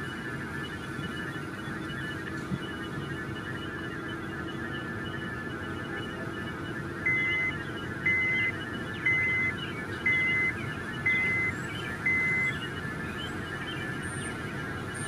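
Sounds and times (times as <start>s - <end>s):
backup alarm beeping: 0.0s - 15.0s.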